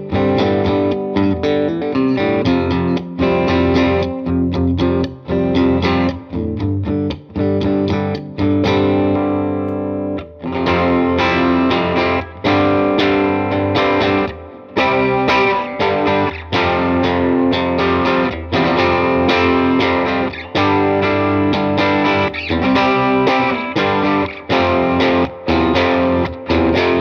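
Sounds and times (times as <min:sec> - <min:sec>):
overdriven electric guitar chords: 0:00.0 - 0:27.0.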